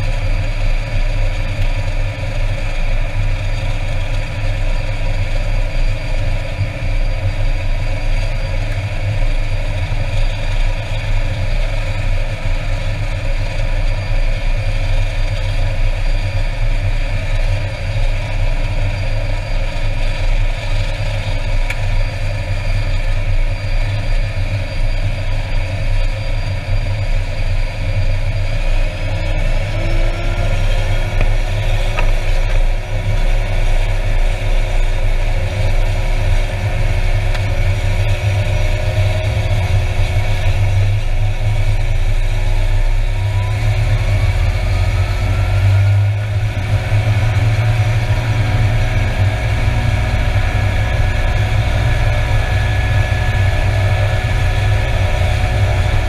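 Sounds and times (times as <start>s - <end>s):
rising engine whine: 0.0s - 56.0s
turboprop engine whine and rumble: 0.0s - 56.0s.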